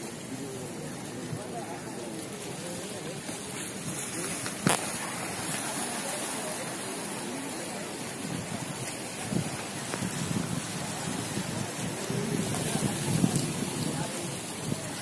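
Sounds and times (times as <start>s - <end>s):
distant voices: 0.0s - 15.0s
sea waves against a wall: 0.0s - 15.0s
wind: 0.0s - 15.0s.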